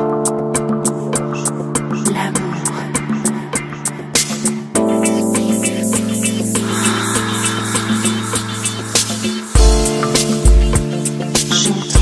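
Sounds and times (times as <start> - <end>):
music with sustained chords: 0.0 - 12.0.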